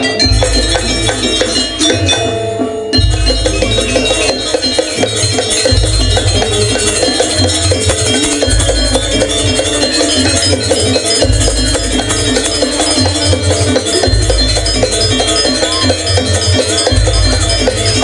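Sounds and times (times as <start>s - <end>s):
bell-like metallic tones: 0.0s - 18.0s.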